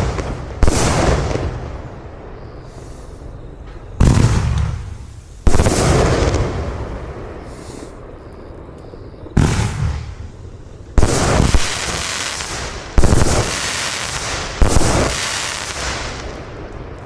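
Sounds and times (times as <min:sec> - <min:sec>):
loud firework bangs: 0:00.0 - 0:08.2, 0:08.9 - 0:16.7
firework hiss: 0:00.0 - 0:08.6, 0:09.2 - 0:16.8.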